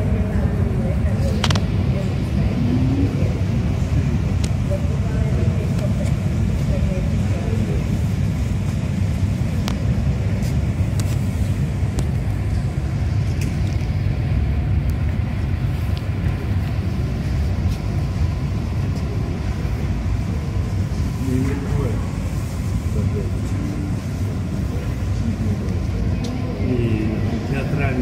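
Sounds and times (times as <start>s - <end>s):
low rumbling background noise: 0.0s - 28.0s.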